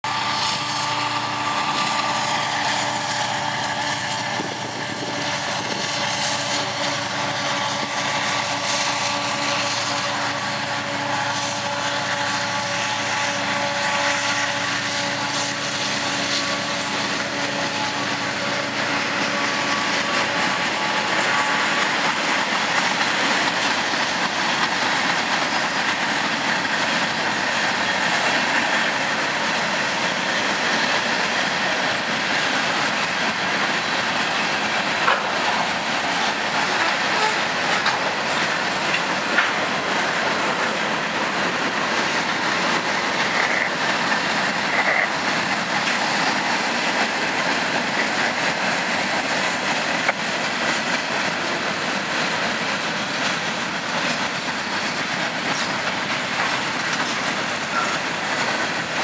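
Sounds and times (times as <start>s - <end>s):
diesel locomotive engine drone: 0.0s - 59.0s
freight cars rolling on rails: 0.0s - 59.0s.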